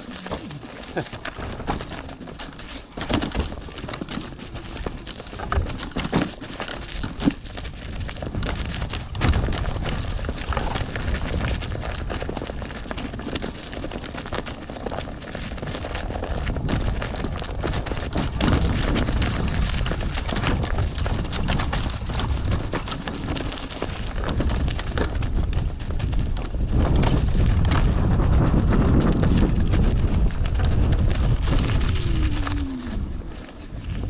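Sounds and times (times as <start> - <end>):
bike knocks and rattles: 0.0 - 32.2
wind buffeting microphone: 3.0 - 34.0.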